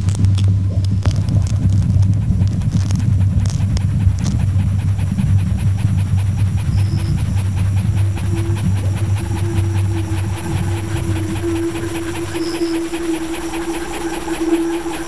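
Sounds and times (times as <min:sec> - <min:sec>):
fast faint ticking: 0:00.0 - 0:15.0
low rumbling drone: 0:00.0 - 0:15.0
thin steady tone: 0:00.0 - 0:15.0.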